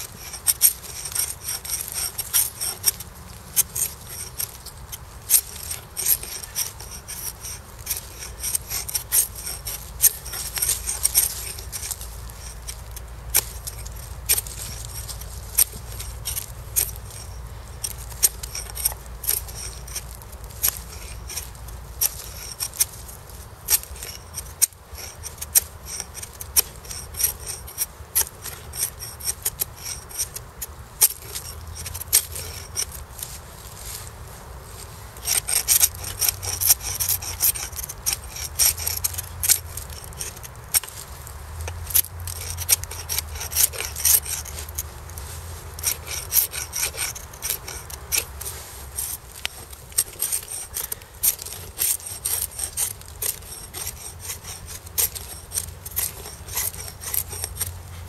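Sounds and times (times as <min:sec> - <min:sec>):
knife scraping wooden stick: 0:00.0 - 0:34.1, 0:34.8 - 0:58.0.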